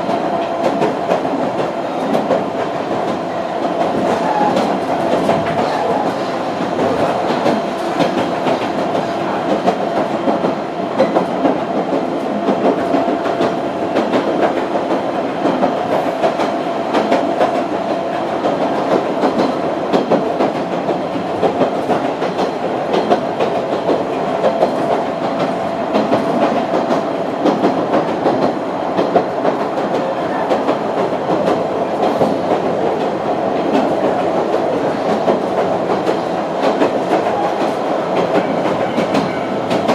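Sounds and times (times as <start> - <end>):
continuous train rumble: 0.0 - 39.9
train wheels clicking over rail joints: 0.0 - 39.9.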